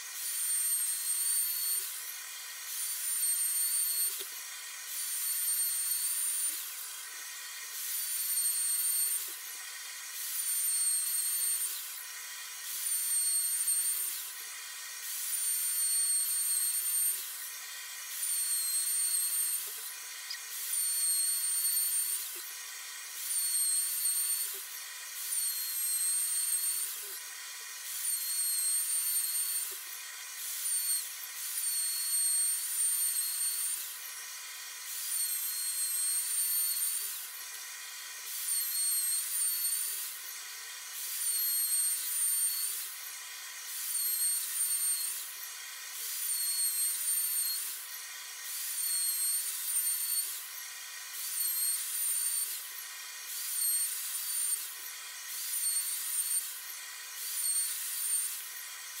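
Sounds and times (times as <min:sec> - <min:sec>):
router whining through wood: 0:00.0 - 0:59.0.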